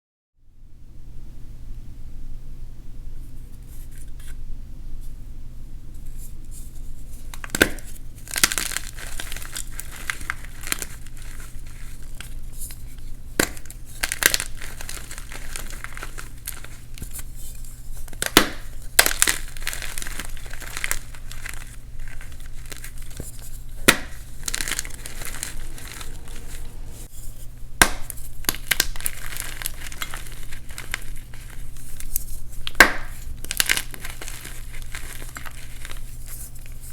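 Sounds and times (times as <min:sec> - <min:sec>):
steady low hum: 0:00.4 - 0:36.9
chalk crunching and snapping: 0:07.1 - 0:36.9.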